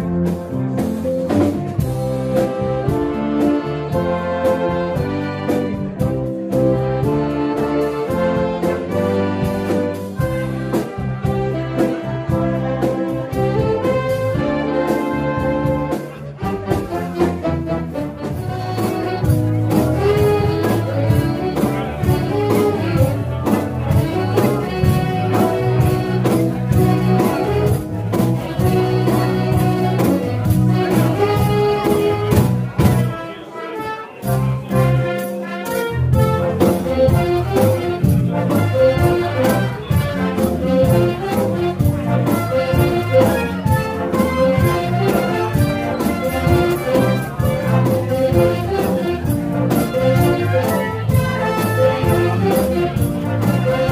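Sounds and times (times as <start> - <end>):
big band jazz music: 0.0 - 53.9.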